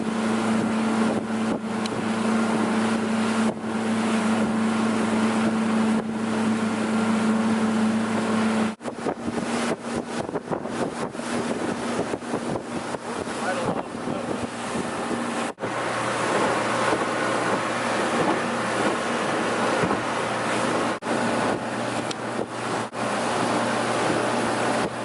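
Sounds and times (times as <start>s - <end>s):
motorboat engine humming: 0.0s - 25.0s
water rushing past: 0.0s - 25.0s
water splashing: 0.0s - 25.0s
wind on microphone: 0.0s - 25.0s.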